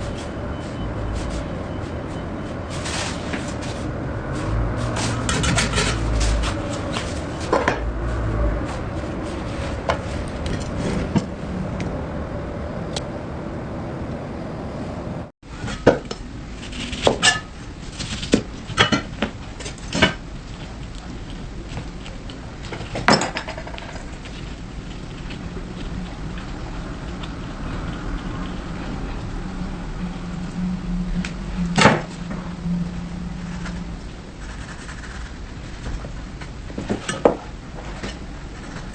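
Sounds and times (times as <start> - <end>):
steady background noise: 0.0 - 38.9.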